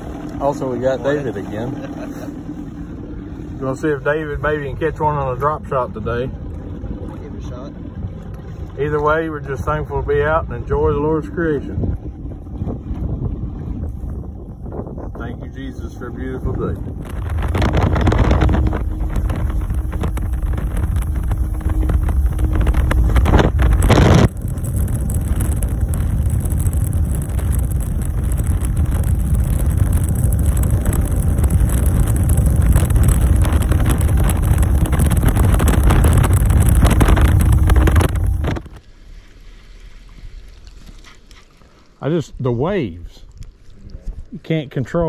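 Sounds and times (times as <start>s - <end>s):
wind buffeting microphone: 0.0s - 38.8s
outboard motor droning: 0.0s - 42.0s.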